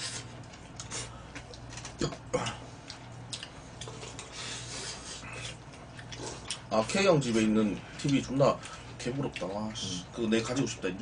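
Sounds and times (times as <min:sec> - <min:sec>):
chewing and slurping: 0:00.0 - 0:10.6.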